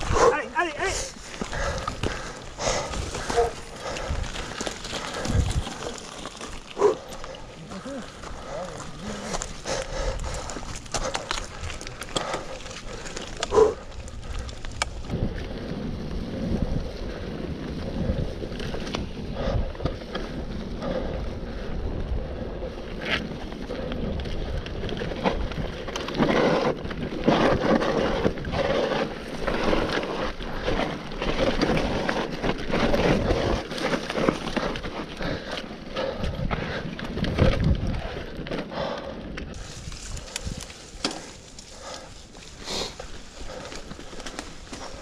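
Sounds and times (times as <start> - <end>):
wind buffeting microphone: 0.0 - 42.4
bike rattling and knocking: 0.0 - 45.0
bike tyres on dirt: 0.0 - 45.0.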